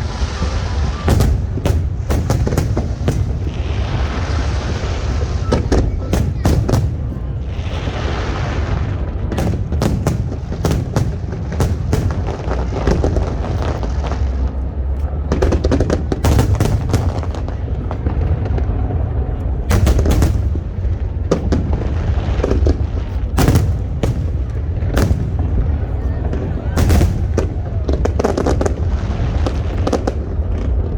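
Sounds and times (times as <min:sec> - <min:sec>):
fireworks bangs and booms: 0:00.0 - 0:30.9
low rumble: 0:00.0 - 0:30.9.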